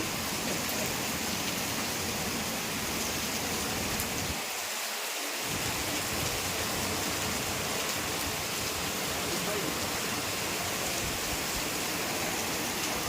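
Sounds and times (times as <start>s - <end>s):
rain falling steadily: 0.0s - 13.0s.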